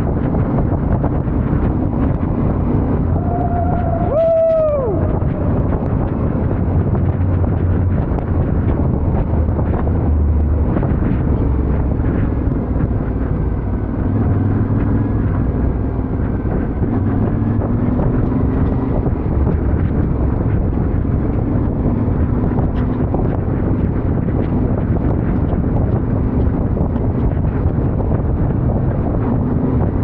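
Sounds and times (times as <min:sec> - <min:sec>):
wind buffeting microphone: 0:00.0 - 0:30.0
motorcycle engine running: 0:04.9 - 0:30.0.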